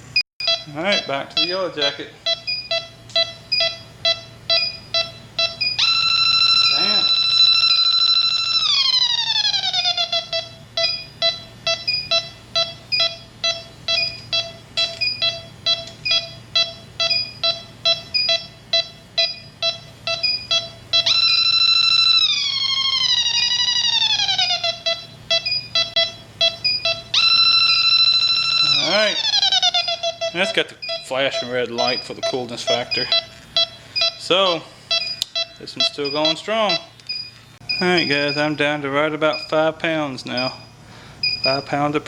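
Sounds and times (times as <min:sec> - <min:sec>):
slow ticking beep: 0:00.4 - 0:08.7, 0:09.8 - 0:22.3, 0:24.6 - 0:41.9
leak detector high-pitched tone: 0:00.4 - 0:42.0.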